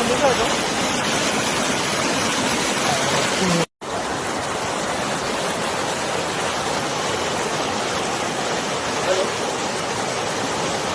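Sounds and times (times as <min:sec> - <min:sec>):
river water rushing: 0:00.0 - 0:10.9.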